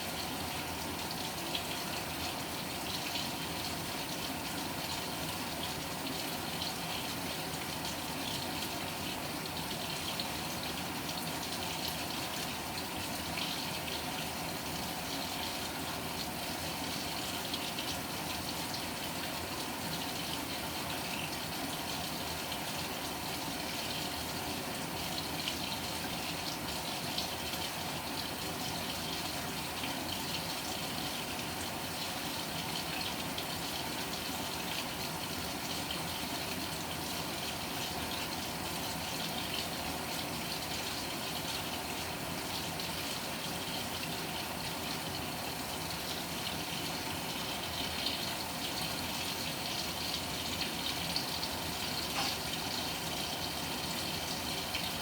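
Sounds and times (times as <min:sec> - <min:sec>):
water pouring into washing machine: 0:00.0 - 0:55.0.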